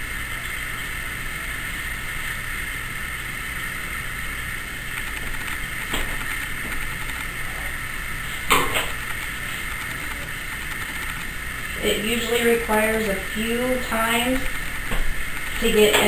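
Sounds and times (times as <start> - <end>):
mechanical hum and hiss: 0.0 - 16.0.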